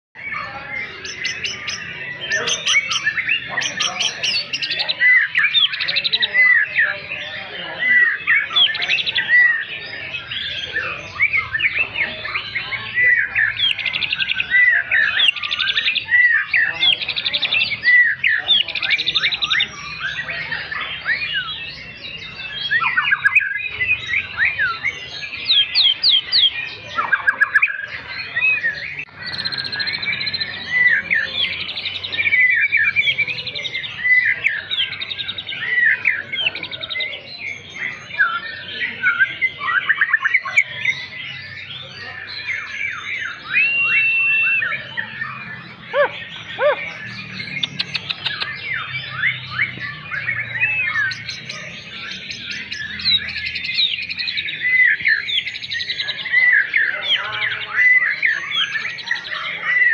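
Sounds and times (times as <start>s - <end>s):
bird singing whistles and trills: 0.2s - 59.9s.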